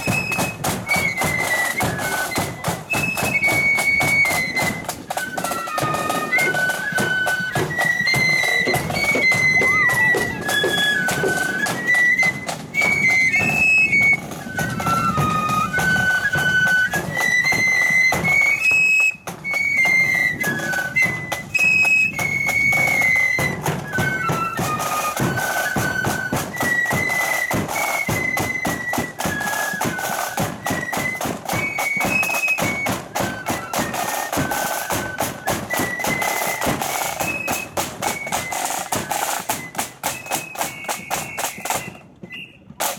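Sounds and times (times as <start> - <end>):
flute band playing: 0.0 - 42.9
snare and bass drum: 0.0 - 42.9.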